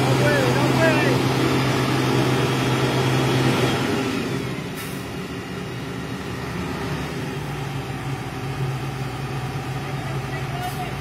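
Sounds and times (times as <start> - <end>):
tractor diesel engines running: 0.0 - 11.0.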